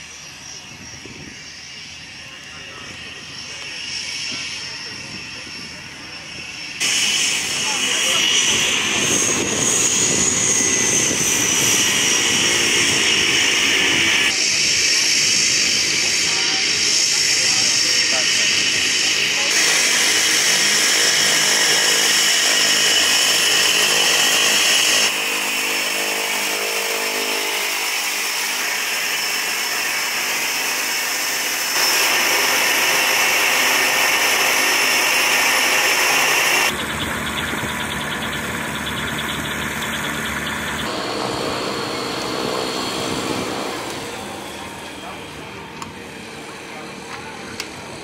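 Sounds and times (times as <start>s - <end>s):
propeller noise: 0.0s - 48.0s
turboprop engine whine: 0.0s - 48.0s.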